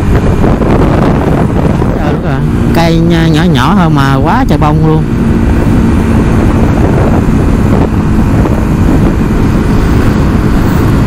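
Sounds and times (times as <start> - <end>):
vehicle road and engine noise: 0.0 - 11.0
wind buffeting microphone: 0.0 - 11.0.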